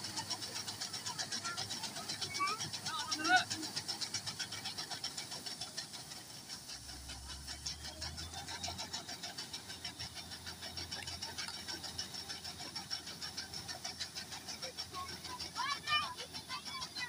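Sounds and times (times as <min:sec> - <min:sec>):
auger rapid clatter: 0:00.0 - 0:17.0
combine harvester running: 0:00.0 - 0:17.0.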